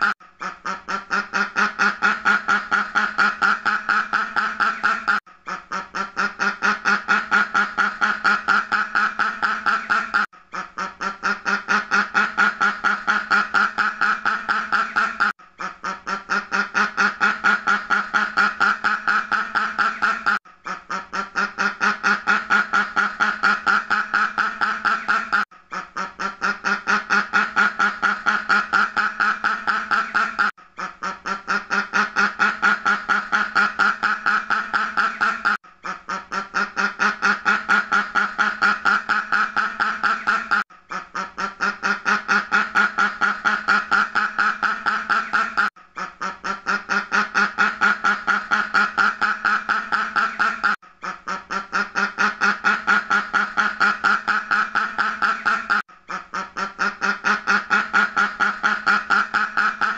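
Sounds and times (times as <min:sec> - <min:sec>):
duck quacking: 0:00.0 - 0:59.9.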